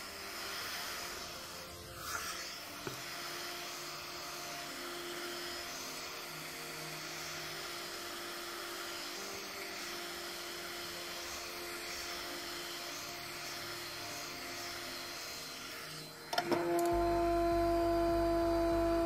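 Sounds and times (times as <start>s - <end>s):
hot-air gun fan blowing: 0.0s - 19.0s.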